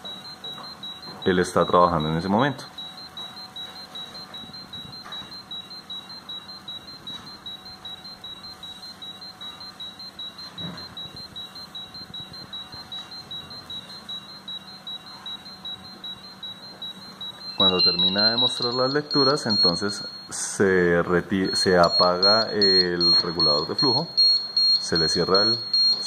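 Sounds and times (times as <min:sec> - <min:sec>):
gas detector alarm beeping: 0:00.0 - 0:26.0.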